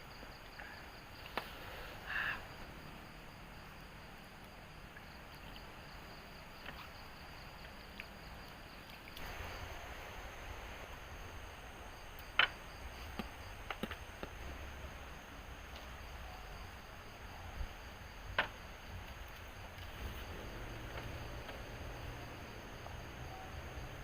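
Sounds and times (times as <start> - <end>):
high insect drone: 0.0 - 24.0
steady background hiss: 0.0 - 24.0.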